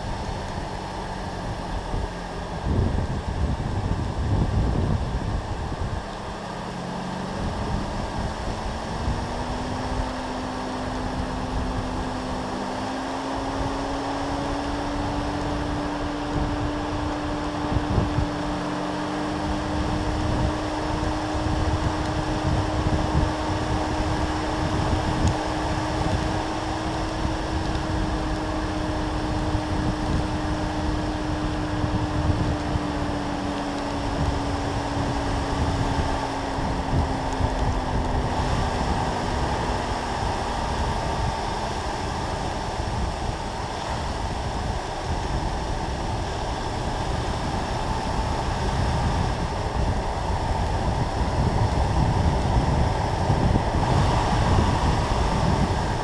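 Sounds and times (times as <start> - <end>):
car hum: 0.0 - 56.0
road and wind noise: 0.0 - 56.0.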